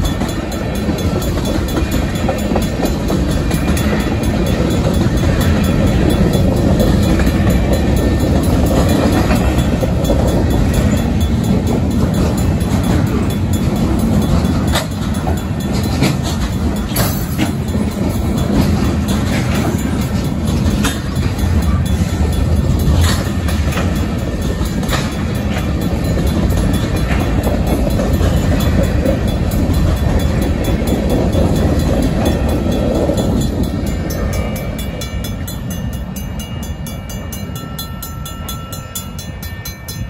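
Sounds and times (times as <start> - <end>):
wheels clickety-clack over joints: 0.0 - 35.9
train wheels rumbling on rail: 0.0 - 40.0.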